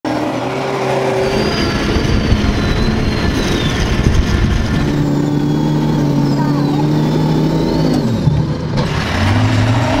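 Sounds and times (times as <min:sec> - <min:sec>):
tractor engine droning: 0:00.1 - 0:10.0.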